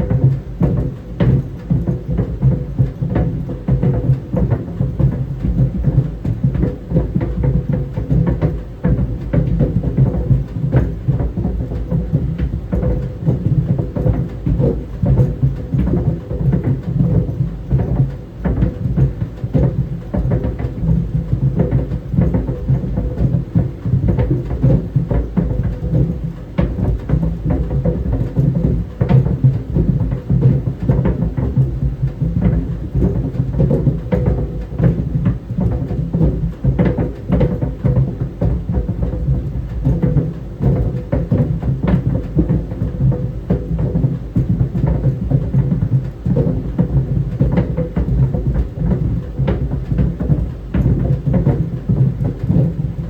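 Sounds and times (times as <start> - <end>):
clothes dryer rumble: 0.0 - 53.0
tennis balls knocking in dryer drum: 0.0 - 53.0.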